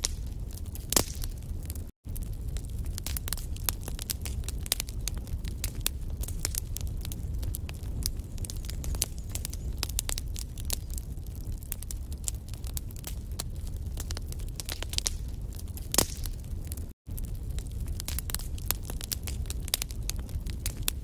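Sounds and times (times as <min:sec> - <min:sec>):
fire crackling and popping: 0:00.0 - 0:21.0
fire low rumble: 0:00.0 - 0:21.0.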